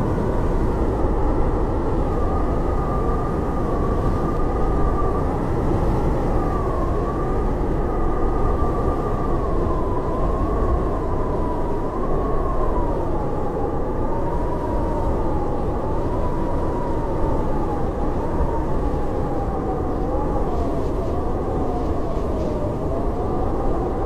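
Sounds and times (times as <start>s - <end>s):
howling blizzard wind: 0.0s - 24.0s.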